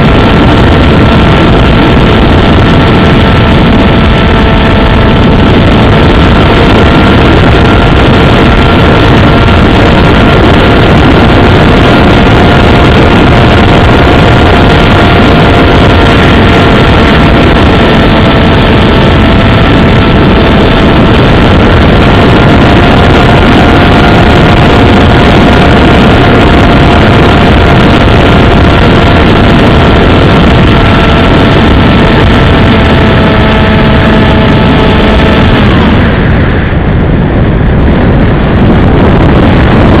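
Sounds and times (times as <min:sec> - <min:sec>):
model airplane motor whine: 0:00.0 - 0:40.0
rushing wind noise: 0:00.0 - 0:40.0.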